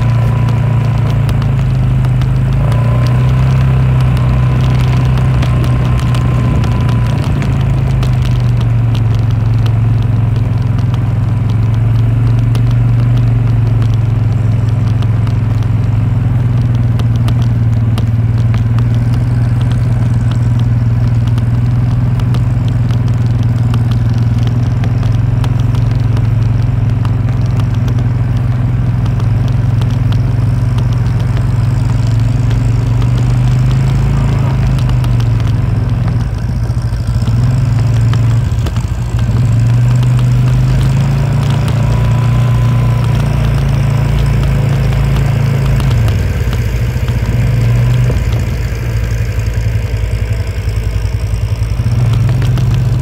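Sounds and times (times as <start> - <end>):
tractor engine running steadily: 0.0 - 53.0.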